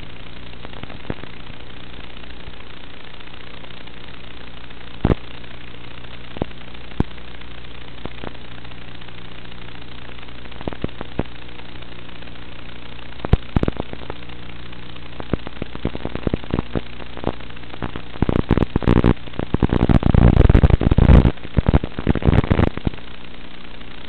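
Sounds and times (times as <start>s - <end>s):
crackling radio static: 0.0s - 24.0s
electrical hum: 0.0s - 24.0s.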